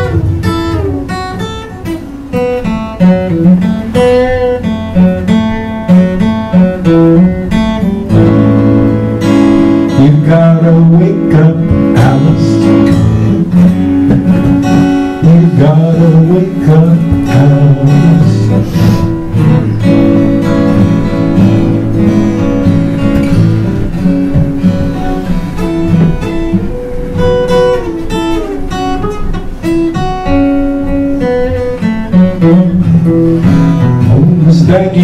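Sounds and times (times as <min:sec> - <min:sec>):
acoustic guitars strumming chords: 0:00.0 - 0:35.0
picked guitar melody: 0:00.0 - 0:35.0.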